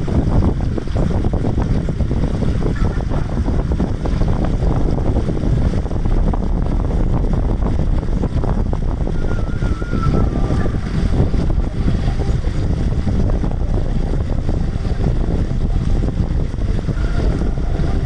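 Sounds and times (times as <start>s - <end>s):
water noise: 0.0s - 18.0s
wind buffeting microphone: 0.0s - 18.0s.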